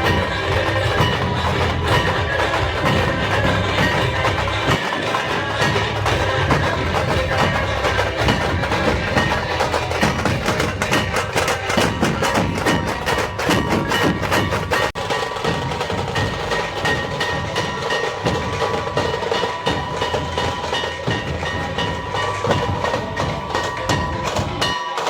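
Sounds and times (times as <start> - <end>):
percussion-heavy music over sound system: 0.0 - 25.0.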